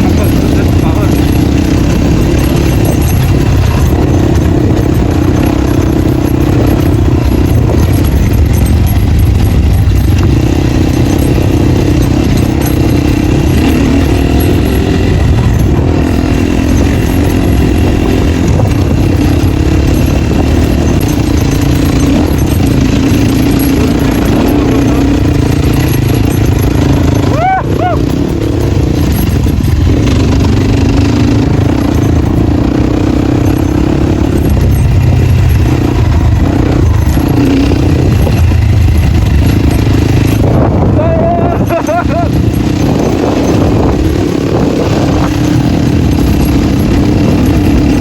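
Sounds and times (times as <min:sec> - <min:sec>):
dirt bike engine running loud: 0:00.0 - 0:48.0.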